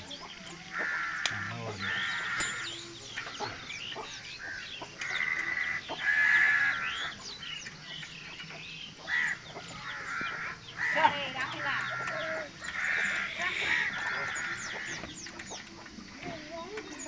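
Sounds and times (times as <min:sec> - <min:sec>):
birds chirping: 0:00.0 - 0:17.0
harsh bird calls: 0:00.0 - 0:17.0.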